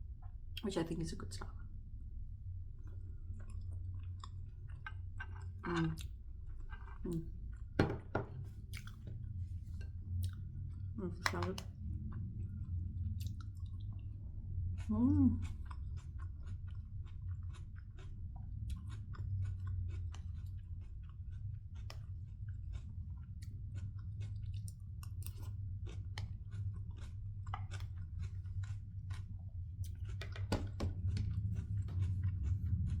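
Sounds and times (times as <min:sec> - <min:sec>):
steady low hum: 0:00.0 - 0:33.0
person chewing crunchy salad: 0:02.7 - 0:33.0.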